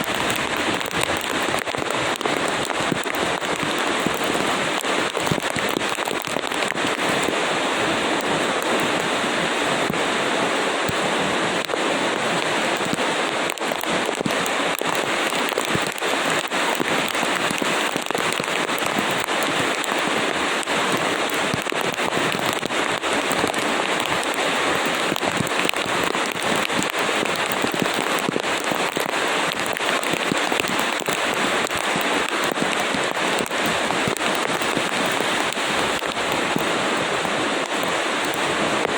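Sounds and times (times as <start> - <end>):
rain pattering on hard surface: 0.0 - 38.9.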